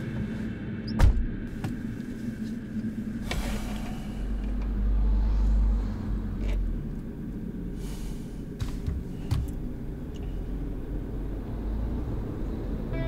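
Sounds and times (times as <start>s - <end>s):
vehicle rumble inside car: 0.0s - 13.0s.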